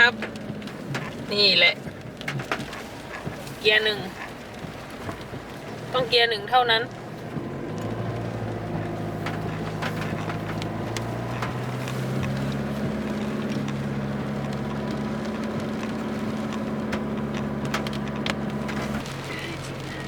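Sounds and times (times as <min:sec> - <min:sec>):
car engine drone: 0:00.0 - 0:20.0.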